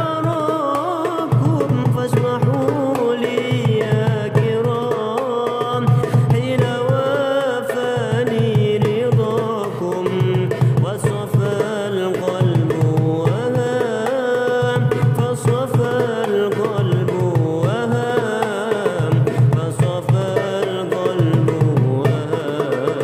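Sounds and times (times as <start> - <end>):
darbuka hand drumming: 0.0 - 23.0.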